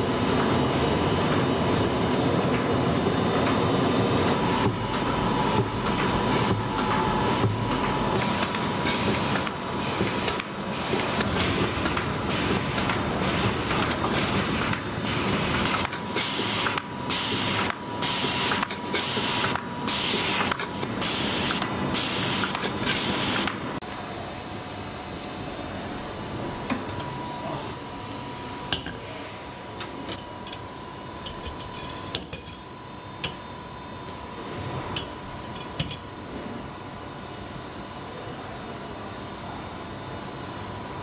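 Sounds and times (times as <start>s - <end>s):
printing machine clatter and hum: 0.0s - 41.0s
thin steady machine whine: 0.0s - 41.0s.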